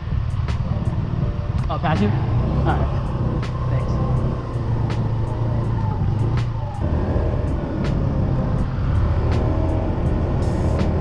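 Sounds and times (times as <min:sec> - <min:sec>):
road and wind noise: 0:00.0 - 0:11.0
scooter engine droning: 0:00.4 - 0:11.0.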